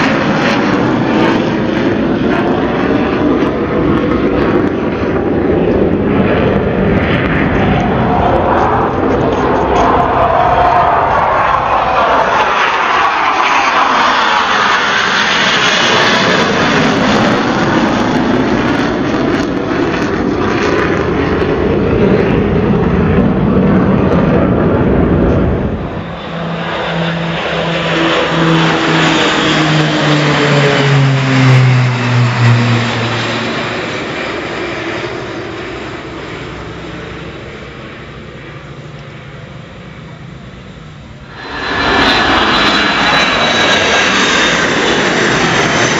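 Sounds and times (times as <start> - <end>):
jet flying low overhead: 0.0 - 45.9
propeller planes passing: 0.0 - 45.9.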